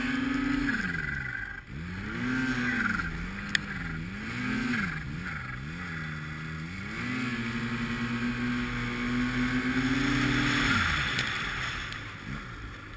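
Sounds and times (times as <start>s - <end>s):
snowmobile engine revving: 0.0s - 12.9s.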